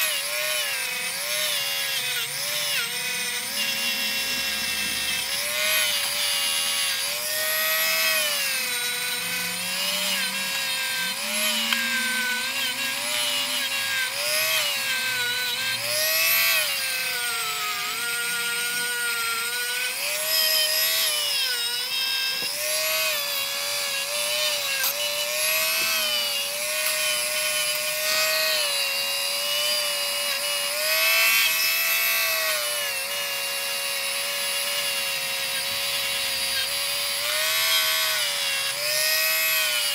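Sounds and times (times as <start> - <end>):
rotary tool motor whine: 0.0 - 39.9.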